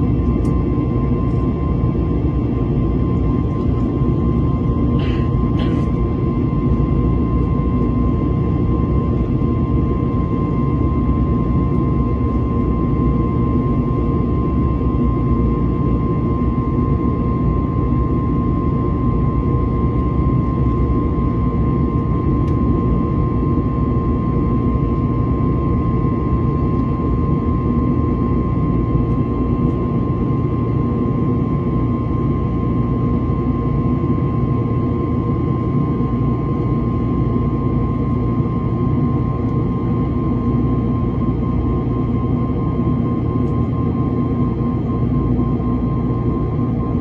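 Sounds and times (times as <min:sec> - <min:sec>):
jet engine roar and airflow: 0:00.0 - 0:47.0.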